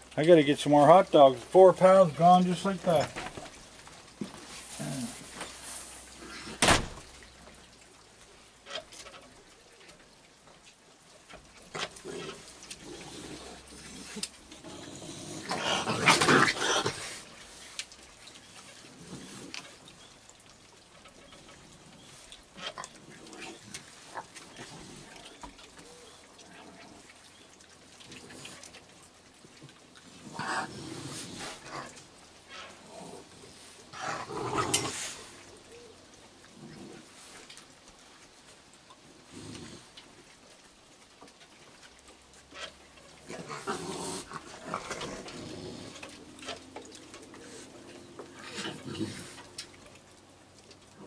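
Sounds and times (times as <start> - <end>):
raccoons growling: 0.1 - 7.0, 11.3 - 38.2, 38.8 - 51.0.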